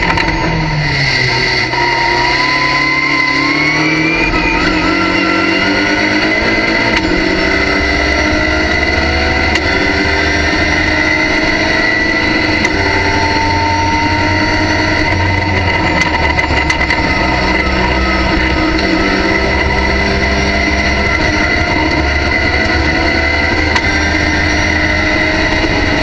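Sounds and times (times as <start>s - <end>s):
gear shifts: 0.0s - 26.0s
high whine: 0.0s - 26.0s
racing car engine revving: 0.0s - 26.0s.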